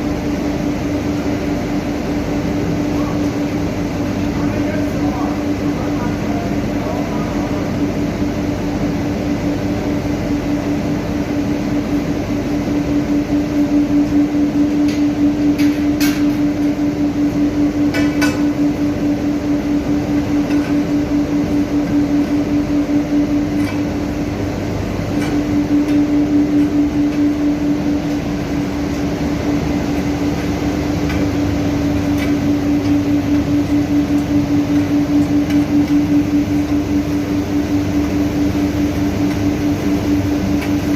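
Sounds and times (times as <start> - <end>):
pulsing electrical hum: 0.0 - 40.9.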